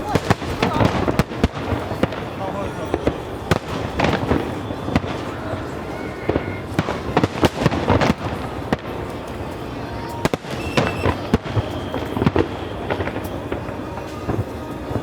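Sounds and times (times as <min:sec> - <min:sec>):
crowd: 0:00.0 - 0:15.0
firework bangs and crackles: 0:00.0 - 0:15.0
music: 0:00.0 - 0:15.0.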